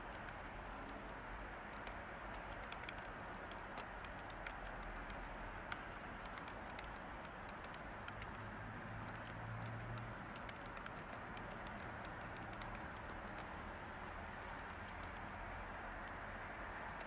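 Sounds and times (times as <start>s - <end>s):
white noise hiss: 0.0s - 17.0s
typing on computer keyboard: 0.1s - 13.6s, 14.4s - 15.3s, 16.0s - 17.0s.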